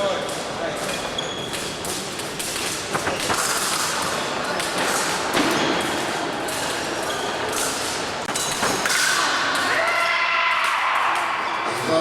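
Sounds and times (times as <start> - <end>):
sports hall noise: 0.0 - 12.0.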